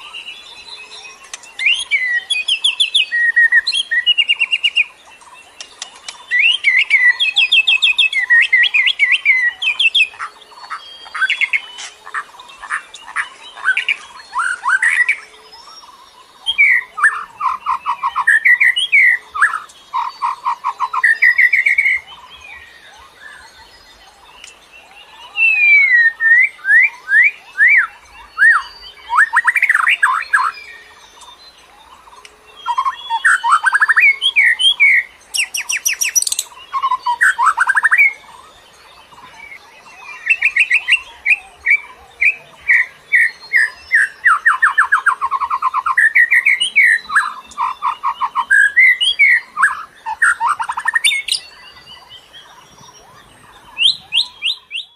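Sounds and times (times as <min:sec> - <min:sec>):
songbird singing trills and whistles: 0:00.0 - 0:54.9.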